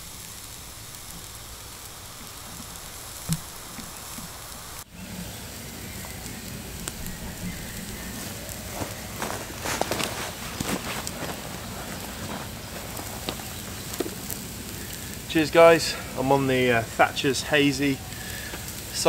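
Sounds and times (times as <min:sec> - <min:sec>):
food sizzling in hot oil: 0:00.0 - 0:19.0
sharp oil crackles: 0:00.0 - 0:19.0.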